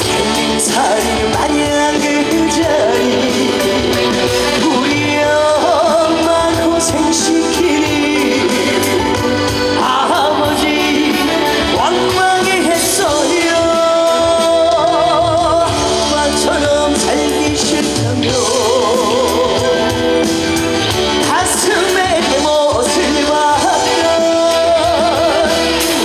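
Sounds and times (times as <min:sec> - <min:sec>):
band with wavering melodic lead: 0:00.0 - 0:26.0
person singing: 0:00.0 - 0:26.0.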